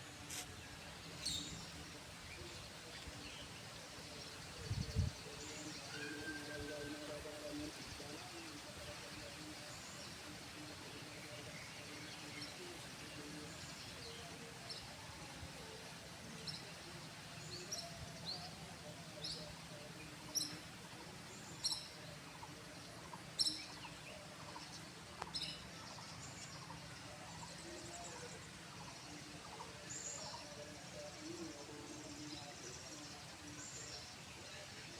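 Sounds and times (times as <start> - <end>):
steady background hiss: 0.0 - 34.9.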